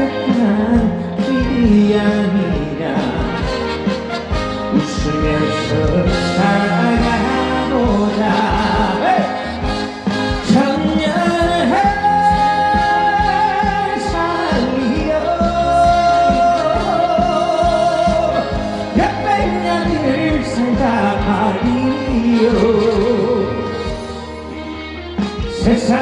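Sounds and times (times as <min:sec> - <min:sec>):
man singing long notes: 0:00.0 - 0:24.6, 0:25.5 - 0:26.0
band with steady drum beat: 0:00.0 - 0:26.0.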